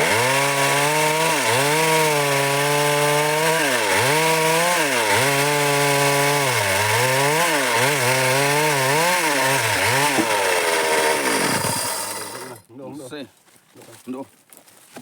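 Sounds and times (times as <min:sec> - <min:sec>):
chainsaw cutting wood: 0:00.0 - 0:12.6.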